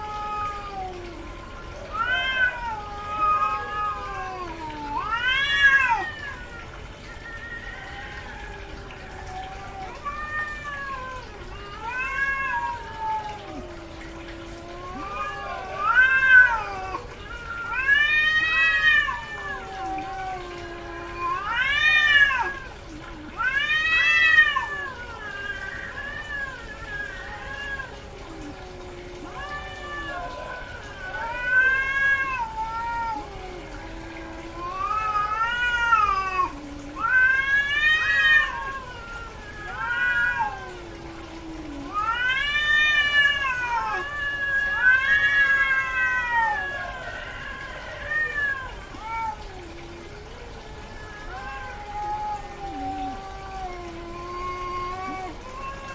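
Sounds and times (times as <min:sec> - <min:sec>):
cat yowling: 0:00.0 - 0:55.9.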